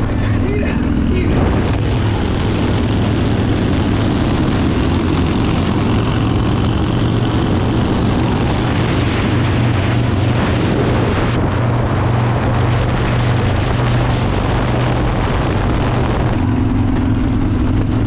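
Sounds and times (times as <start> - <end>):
motorcycle engine cruising: 0.0 - 18.0
road noise: 0.0 - 18.0
wind rushing: 0.0 - 18.0.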